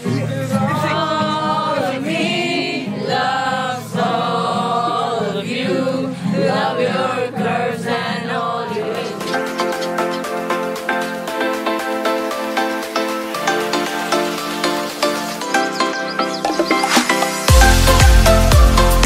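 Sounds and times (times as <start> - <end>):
group of voices singing: 0.0 - 15.5.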